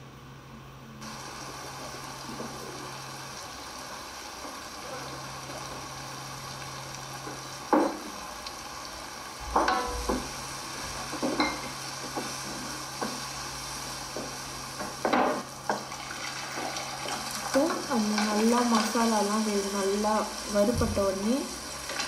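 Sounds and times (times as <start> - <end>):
masala sizzling in oil: 1.0 - 22.0.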